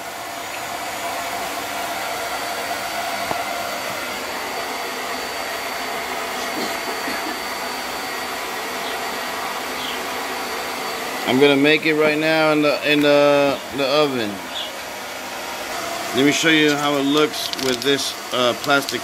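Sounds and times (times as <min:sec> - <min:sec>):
motor and fan whooshing hum: 0:00.0 - 0:19.0.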